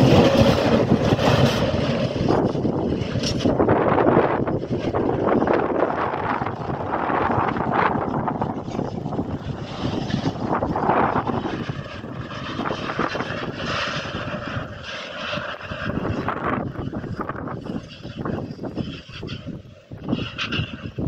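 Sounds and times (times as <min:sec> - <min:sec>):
freight train rumbling: 0:00.0 - 0:21.0
wind buffeting microphone: 0:00.0 - 0:21.0.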